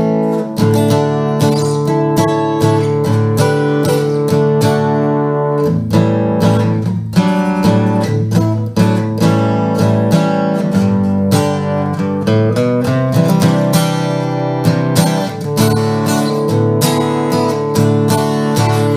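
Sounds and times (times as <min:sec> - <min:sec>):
acoustic guitar playing: 0:00.0 - 0:18.9.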